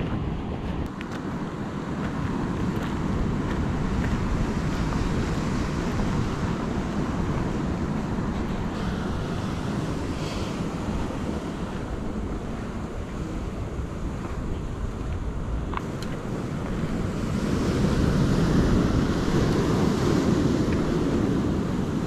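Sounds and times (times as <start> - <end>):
ocean surf: 0.0 - 22.0
wind rumbling on microphone: 0.0 - 22.0.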